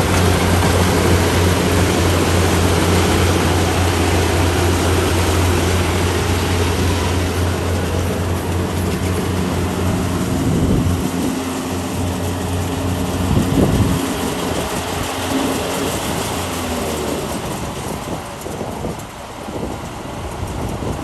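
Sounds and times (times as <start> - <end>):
broad rushing noise: 0.0 - 21.0
diesel engine running: 0.0 - 21.0.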